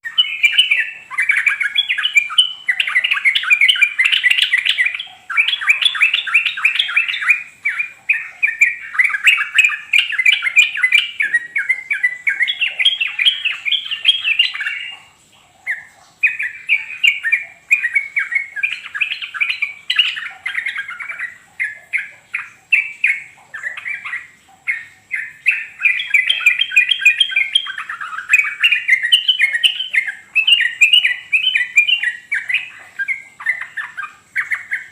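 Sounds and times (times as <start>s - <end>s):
bulbul chattering song: 0.0s - 34.9s.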